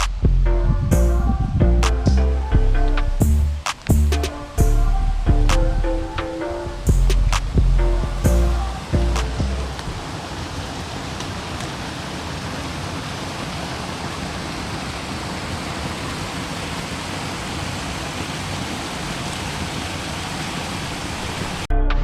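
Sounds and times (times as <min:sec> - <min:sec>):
water rushing: 0:01.3 - 0:21.7.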